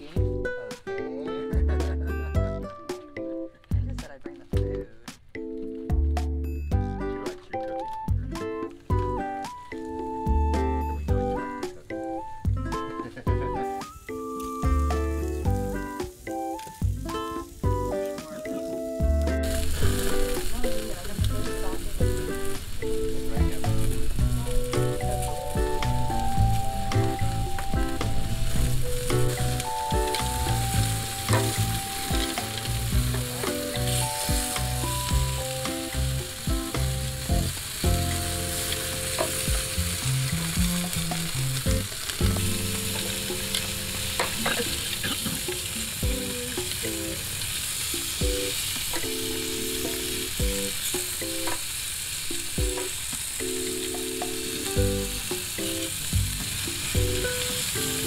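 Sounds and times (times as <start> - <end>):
background music: 0.0 - 51.7, 52.5 - 58.0
sausages sizzling on a grill: 6.8 - 58.0.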